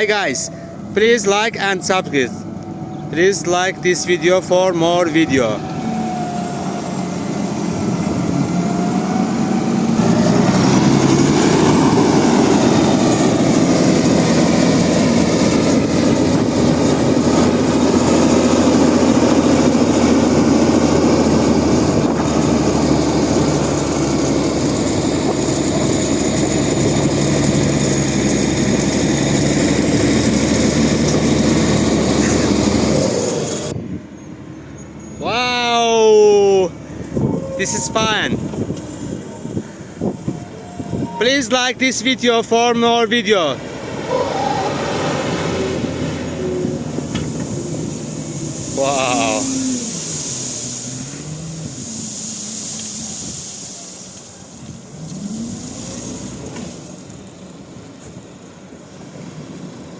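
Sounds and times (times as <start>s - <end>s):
engine running under load: 0.0s - 59.9s.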